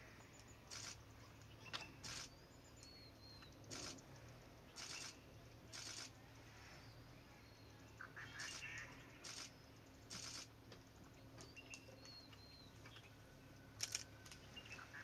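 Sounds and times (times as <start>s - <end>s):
low steady hum: 0.0s - 15.0s
small birds chirping and whistling: 0.1s - 10.5s, 11.1s - 13.6s, 14.2s - 15.0s.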